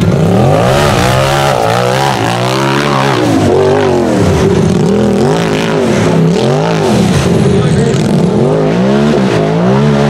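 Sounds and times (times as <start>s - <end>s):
buggy engine revving: 0.0s - 10.0s.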